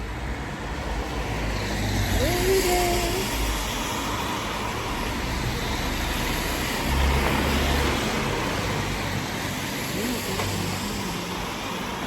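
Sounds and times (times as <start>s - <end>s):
road traffic hiss: 0.0s - 12.0s.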